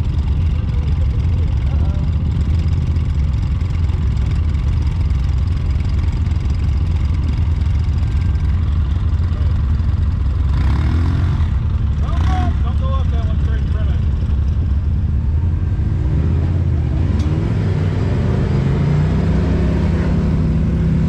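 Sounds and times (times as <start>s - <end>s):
utility vehicle engine droning: 0.0s - 21.0s.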